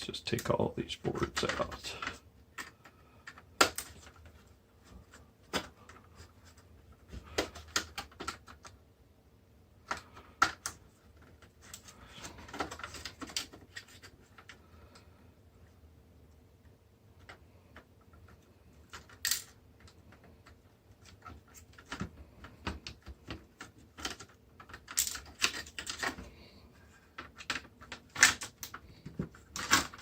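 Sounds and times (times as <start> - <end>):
plastic parts clicking and knocking: 0.0 - 8.8, 9.8 - 15.1, 16.6 - 30.0.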